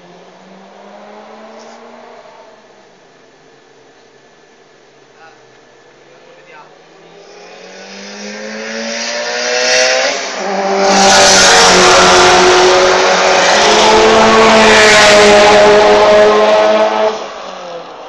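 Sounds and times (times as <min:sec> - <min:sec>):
car engine at full throttle: 0:00.0 - 0:04.1, 0:06.7 - 0:18.0.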